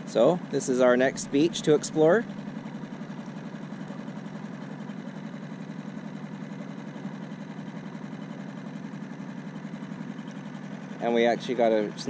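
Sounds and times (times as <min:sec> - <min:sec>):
outboard motor chugging: 0:00.0 - 0:12.0.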